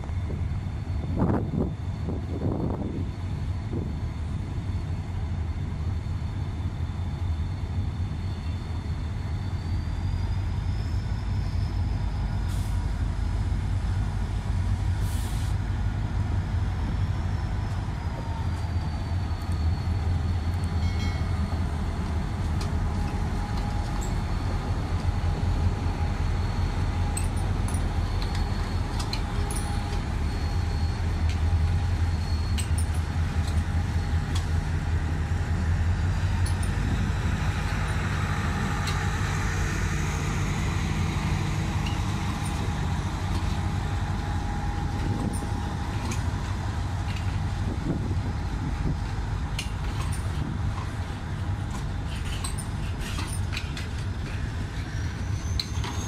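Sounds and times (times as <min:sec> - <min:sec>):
diesel locomotive engine rumbling: 0:00.0 - 0:56.0
train coaches rolling past: 0:00.0 - 0:56.0.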